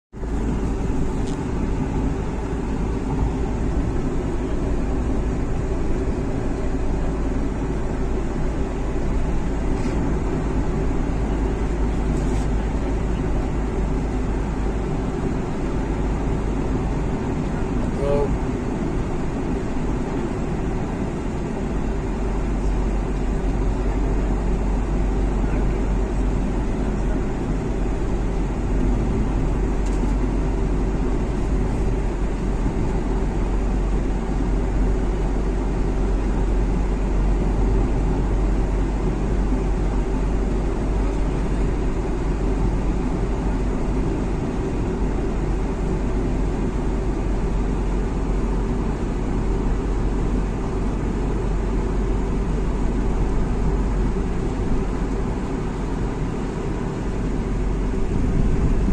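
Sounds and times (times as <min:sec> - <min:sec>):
vehicle driving through tunnel: 0:00.1 - 0:58.9.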